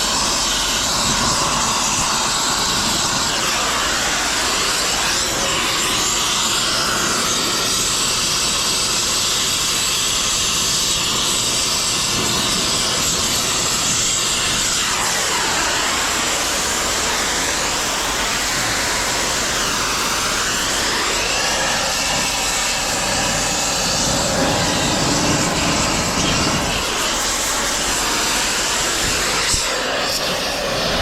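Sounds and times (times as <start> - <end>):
heavy machinery running: 0.0 - 31.0
loud even hiss: 0.0 - 31.0.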